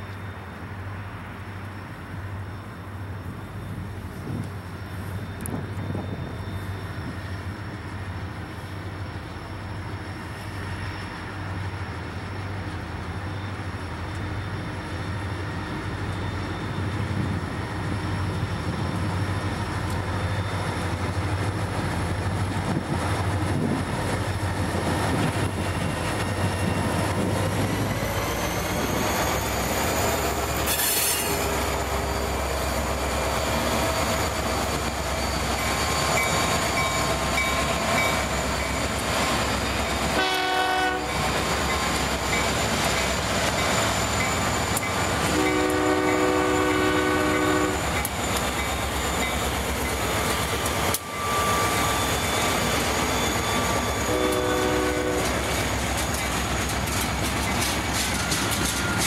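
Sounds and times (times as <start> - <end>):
diesel locomotive engines running: 0.0 - 59.0
wheels rumbling on rails: 0.0 - 59.0.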